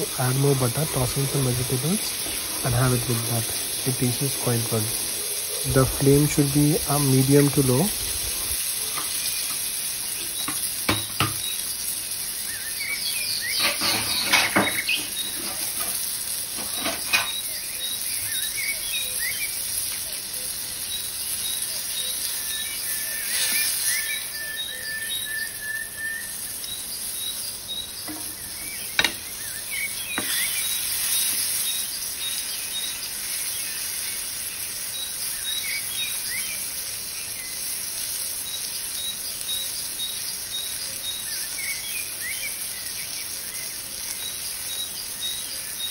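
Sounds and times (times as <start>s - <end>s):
birds chirping: 0.0s - 45.9s
insect and cricket hiss: 0.0s - 45.9s.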